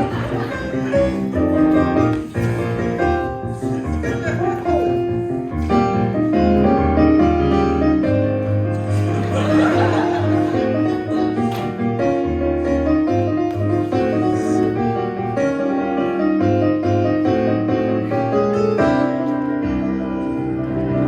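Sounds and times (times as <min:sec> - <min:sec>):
piano chords over bass line: 0:00.0 - 0:21.0.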